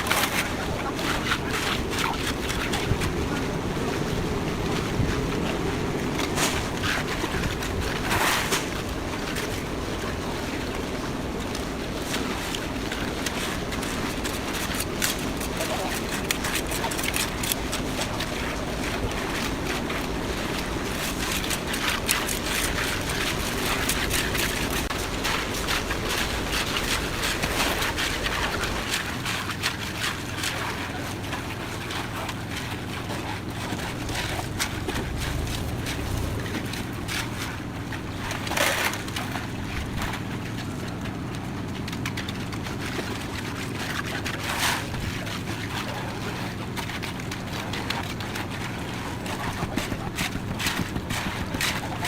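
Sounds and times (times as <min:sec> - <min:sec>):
concrete mixer engine hum: 0:00.0 - 0:52.0.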